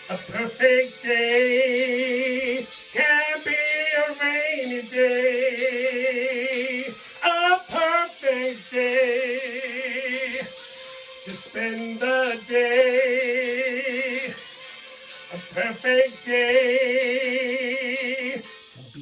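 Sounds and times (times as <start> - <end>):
person singing with vibrato: 0.0 - 19.0.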